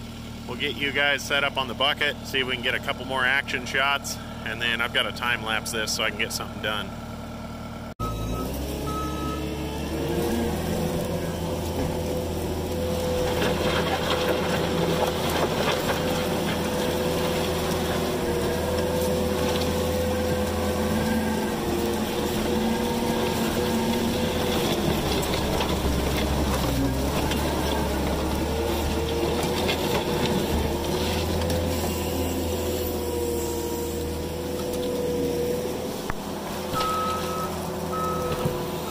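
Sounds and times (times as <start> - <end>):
diesel engine revving hard: 6.3 - 38.9.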